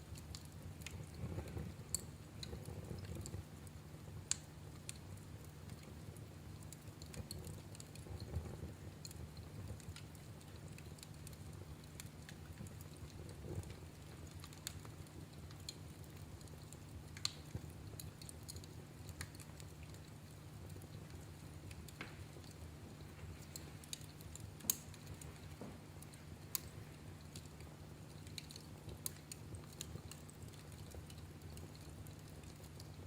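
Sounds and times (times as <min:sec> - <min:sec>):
soft low rumble of flames: 0:00.0 - 0:33.0
wood fire crackling and popping: 0:00.0 - 0:33.0.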